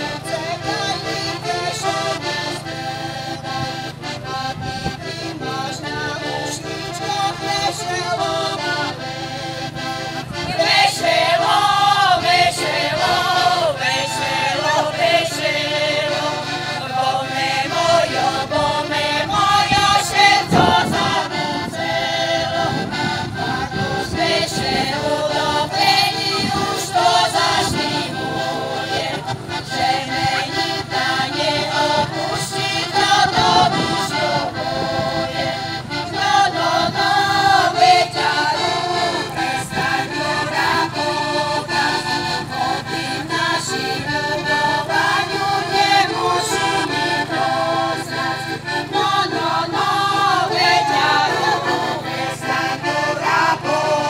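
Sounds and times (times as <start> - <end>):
accordion: 0.0 - 54.0
women singing folk song: 0.0 - 54.0.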